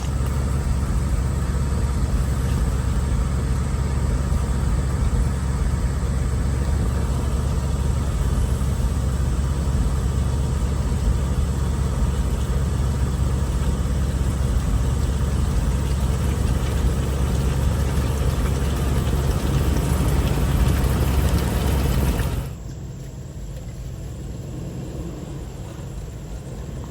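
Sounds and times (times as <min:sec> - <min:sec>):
vehicle engine rumbling: 0:00.0 - 0:26.9.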